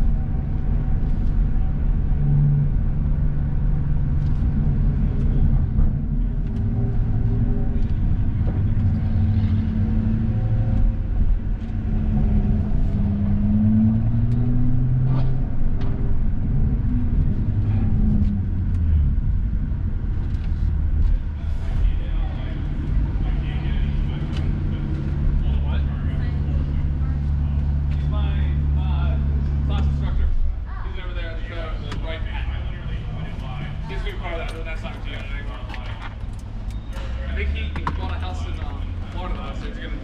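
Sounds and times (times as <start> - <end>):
car engine rumbling at low revs: 0.0 - 40.0.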